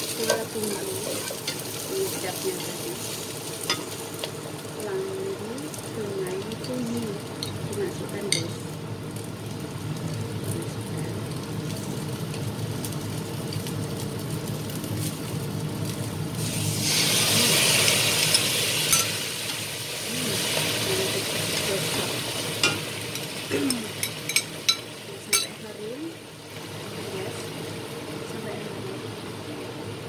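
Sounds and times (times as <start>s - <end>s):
loud burst of sizzling: 0.0s - 6.1s, 10.3s - 30.0s
food frying gently in oil: 0.0s - 30.0s.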